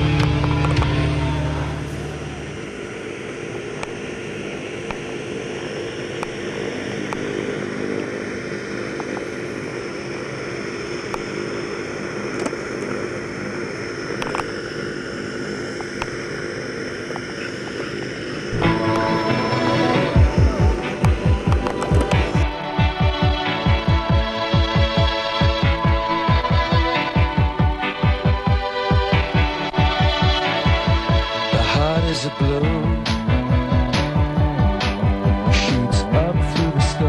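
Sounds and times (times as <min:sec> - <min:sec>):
distant propeller aircraft droning: 0:00.0 - 0:37.0.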